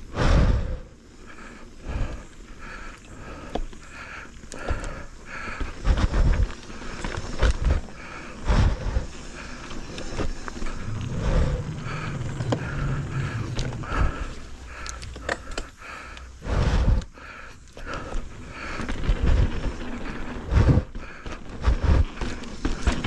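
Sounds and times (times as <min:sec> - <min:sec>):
bike rolling on dirt trail: 0:00.0 - 0:23.0.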